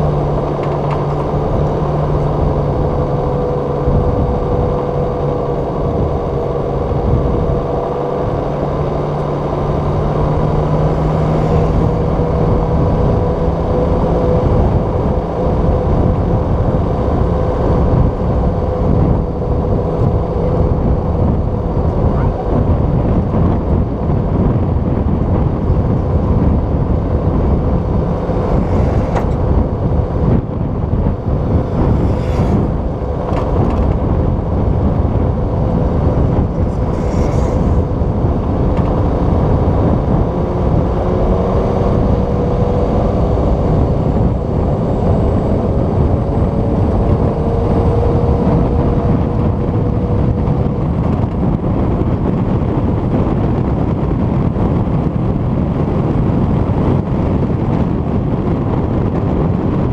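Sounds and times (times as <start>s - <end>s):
faint engine tones: 0.0s - 59.9s
vehicle running noise: 0.0s - 59.9s
wind rush: 0.0s - 59.9s.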